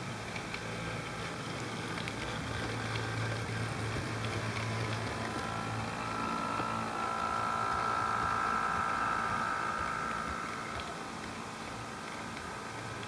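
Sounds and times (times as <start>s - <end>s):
high thin whine: 0.0s - 13.0s
model train motor hum: 0.0s - 13.0s
light wheel ticks: 0.2s - 13.0s.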